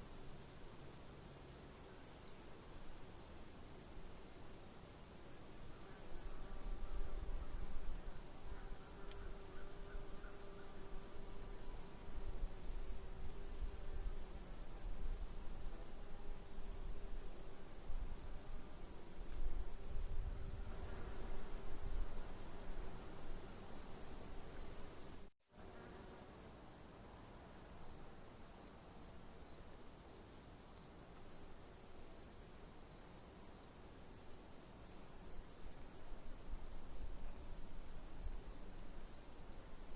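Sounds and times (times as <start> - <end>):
crickets chirping: 0.2 - 25.3, 26.0 - 39.9.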